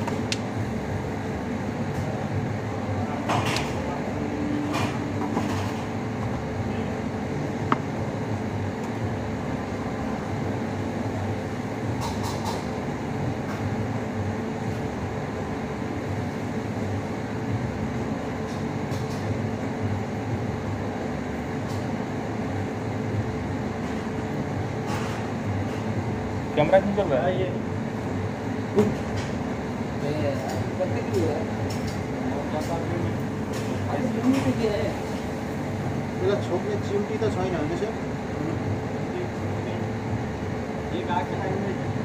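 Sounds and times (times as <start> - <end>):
machinery hum: 0.0 - 42.0.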